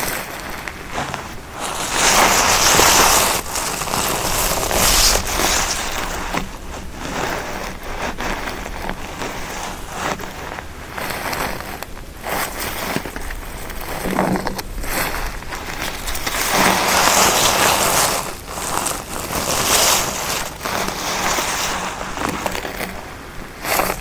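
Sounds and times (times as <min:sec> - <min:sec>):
footsteps on grass and moss: 0:00.0 - 0:24.0.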